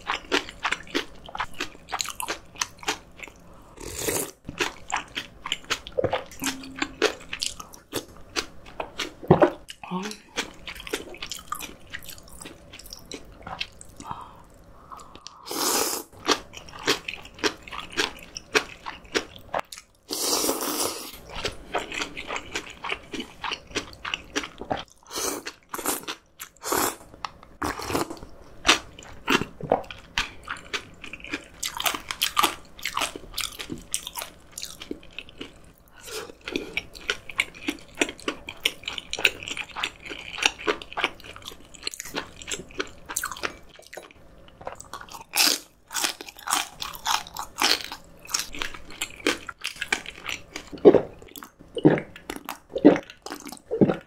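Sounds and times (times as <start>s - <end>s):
person chewing with crunches: 0.0s - 54.0s.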